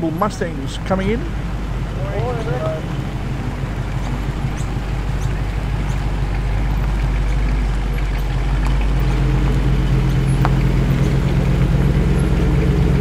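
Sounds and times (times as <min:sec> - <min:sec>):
car engines low rumble: 0:00.0 - 0:13.0.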